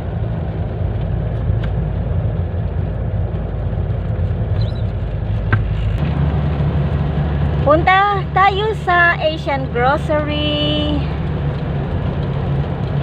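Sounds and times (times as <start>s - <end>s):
rain: 0.0s - 13.0s
vehicle engine and road rumble: 0.0s - 13.0s.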